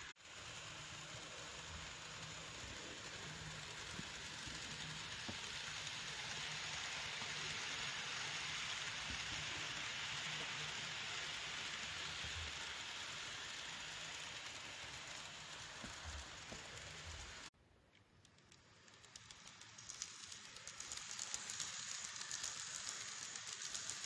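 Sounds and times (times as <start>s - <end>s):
model train rattling on rails: 0.0s - 17.5s, 18.2s - 24.0s.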